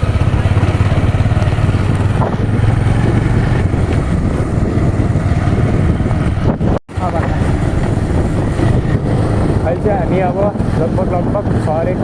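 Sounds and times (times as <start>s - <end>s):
vehicle engine humming: 0.0s - 12.0s
wind noise on microphone: 0.0s - 12.0s.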